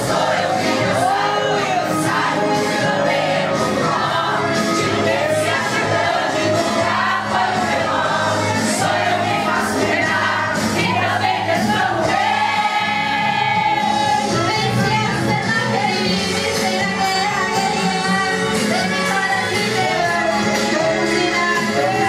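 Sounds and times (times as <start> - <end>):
women's choir singing a hymn: 0.0 - 22.0.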